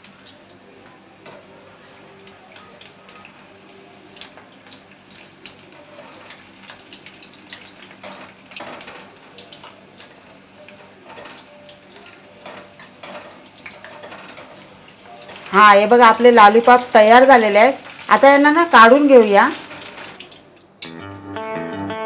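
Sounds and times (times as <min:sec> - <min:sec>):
food deep-frying in oil: 0:00.0 - 0:20.9.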